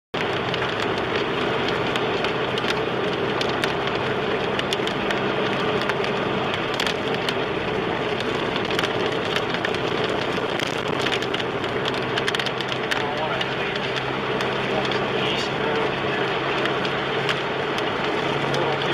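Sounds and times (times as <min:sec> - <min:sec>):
car low hum: 0:00.2 - 0:18.9
drops ticking on car body: 0:00.2 - 0:18.9
heavy rain lashing car: 0:00.2 - 0:18.9.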